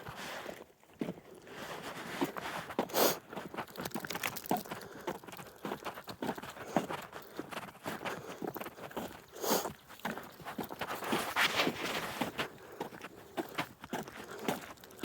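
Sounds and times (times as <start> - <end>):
footsteps walking: 0.1 - 15.0.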